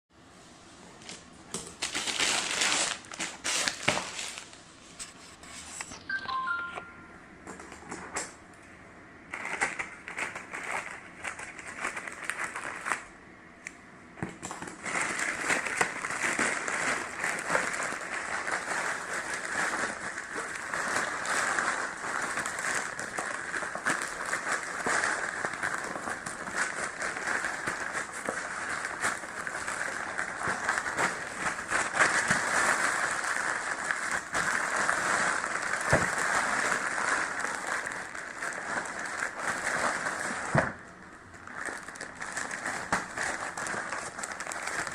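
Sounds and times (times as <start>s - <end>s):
plastic packaging crinkling: 1.0s - 6.6s, 9.3s - 13.1s, 14.2s - 44.9s.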